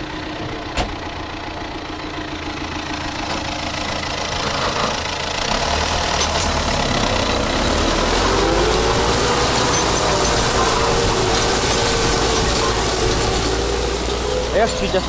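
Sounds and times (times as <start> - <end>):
tractor diesel engine running: 0.0 - 15.0
deep rumble: 2.8 - 15.0.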